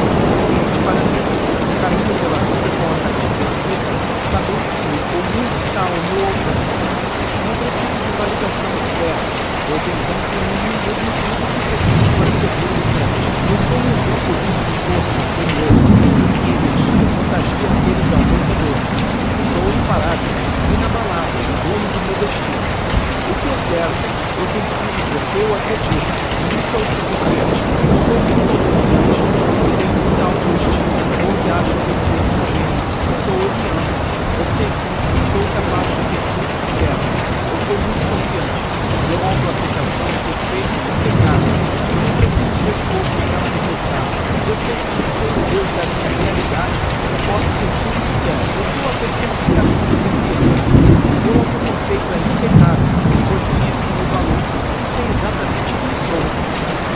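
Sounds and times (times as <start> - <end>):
steady rain hiss: 0.0 - 56.9
thunder rumbling: 0.0 - 56.9.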